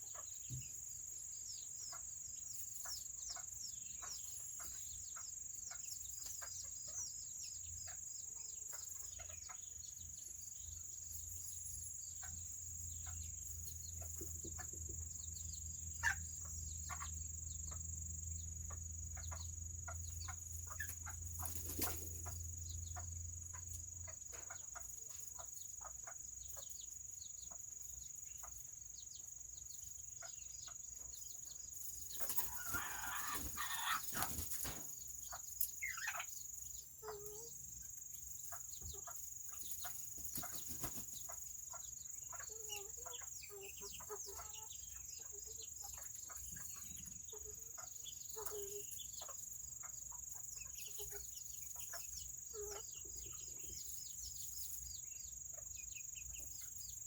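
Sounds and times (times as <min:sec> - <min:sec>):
chickens clucking: 0:00.0 - 0:57.0
high insect-like tone: 0:07.8 - 0:57.0.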